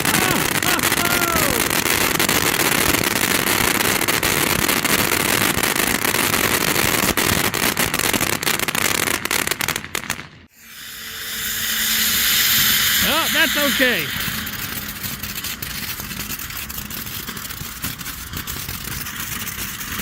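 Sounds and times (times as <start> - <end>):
firework crackling hiss: 0.0 - 20.0.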